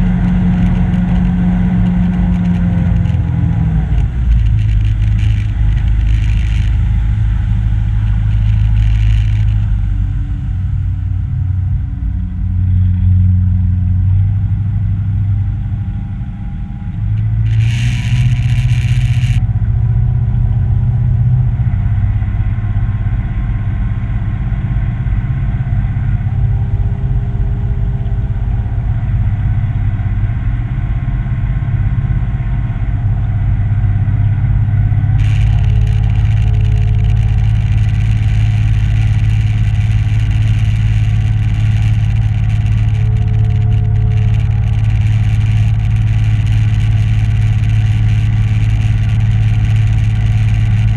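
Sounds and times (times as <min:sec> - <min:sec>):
boat motor running: 0:00.0 - 0:50.9.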